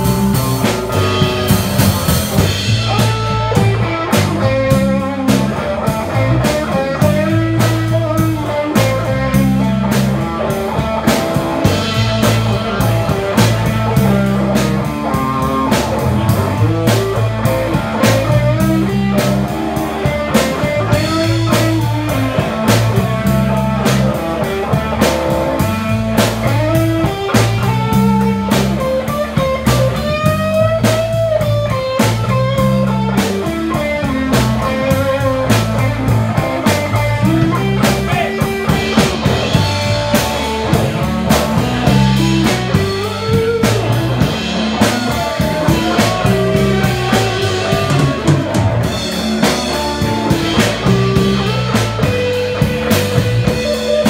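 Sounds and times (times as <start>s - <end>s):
bass guitar: 0.0s - 54.0s
drum kit steady beat: 0.0s - 54.0s
electric guitar bent lead notes: 0.0s - 54.0s.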